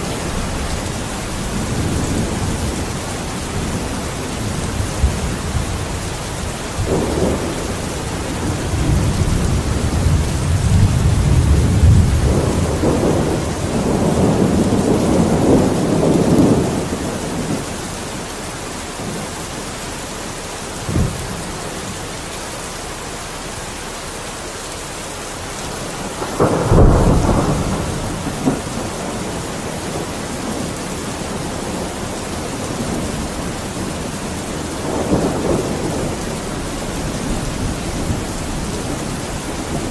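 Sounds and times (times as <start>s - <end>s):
rolling thunder: 0.0s - 17.9s, 20.8s - 21.8s, 25.8s - 39.9s
steady rain: 0.0s - 39.9s.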